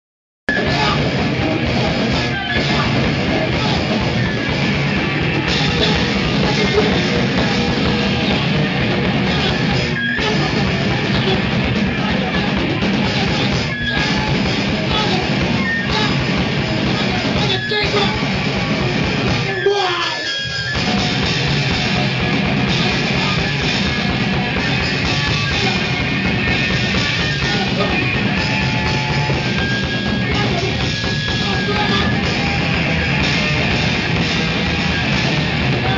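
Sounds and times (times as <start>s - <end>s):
crowd noise: 0.5s - 35.9s
live rock band playing: 0.5s - 35.9s.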